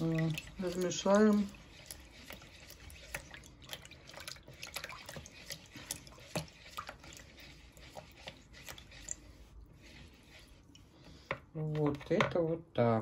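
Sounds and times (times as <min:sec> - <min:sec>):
spatula stirring liquid in bowl: 0:00.0 - 0:12.6.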